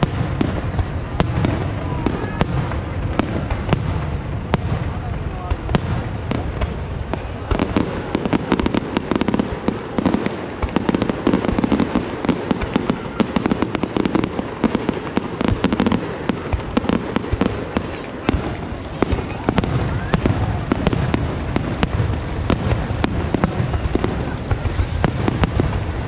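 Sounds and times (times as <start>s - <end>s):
continuous rumble: 0.0s - 26.0s
fireworks bursting: 0.0s - 26.0s.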